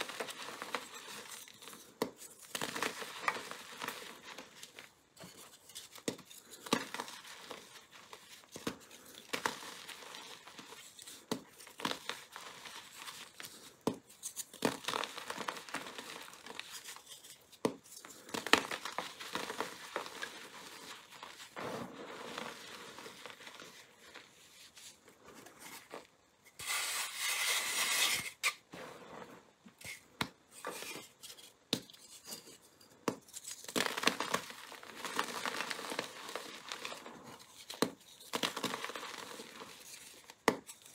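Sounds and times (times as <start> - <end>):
powder rustling between palms: 0.0 - 26.2, 33.4 - 40.9
chalk blocks cracking and crunching: 0.0 - 28.6, 29.8 - 40.9.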